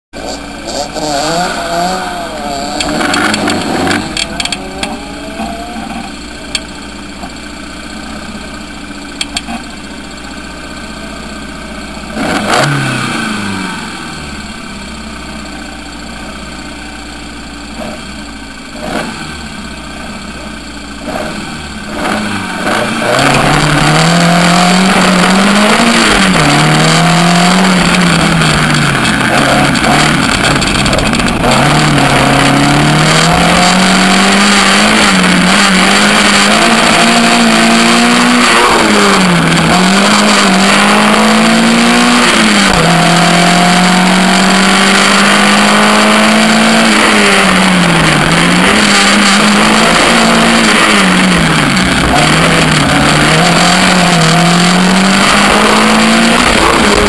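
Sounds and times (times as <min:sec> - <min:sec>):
car engine revving and accelerating: 0:00.2 - 0:17.1, 0:17.8 - 0:20.3, 0:21.0 - 0:57.0.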